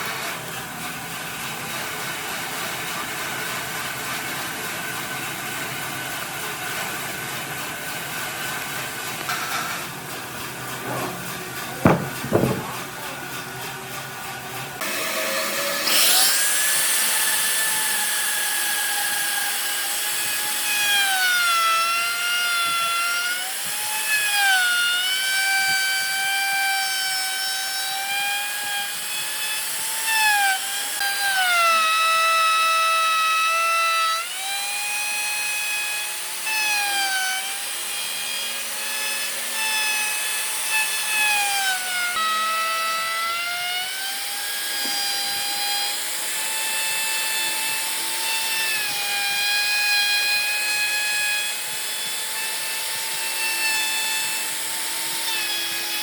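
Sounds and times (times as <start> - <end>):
power tool motor whining: 6.0 - 13.4, 14.8 - 56.0.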